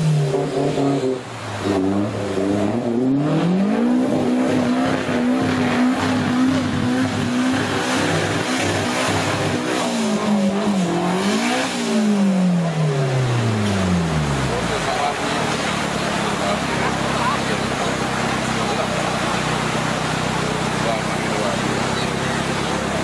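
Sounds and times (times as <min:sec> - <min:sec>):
river water rushing and splashing: 0:00.0 - 0:23.0
truck engine revving: 0:00.0 - 0:23.0.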